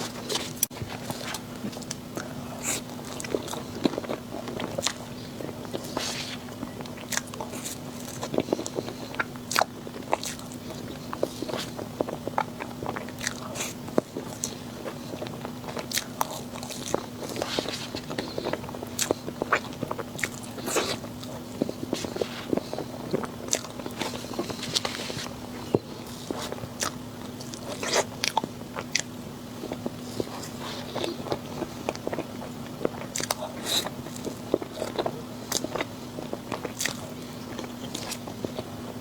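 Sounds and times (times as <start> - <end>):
crunchy chewing of sweets: 0.0 - 39.0.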